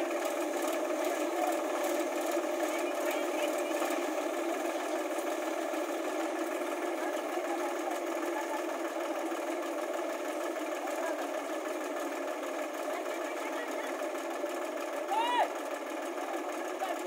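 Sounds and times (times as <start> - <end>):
tractor engine and thresher drone: 0.0 - 17.0.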